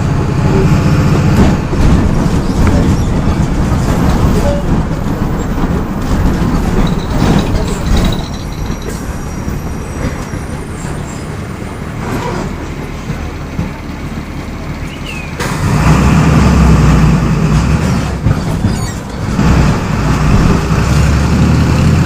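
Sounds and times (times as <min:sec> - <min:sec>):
diesel bus engine running: 0:00.0 - 0:22.0.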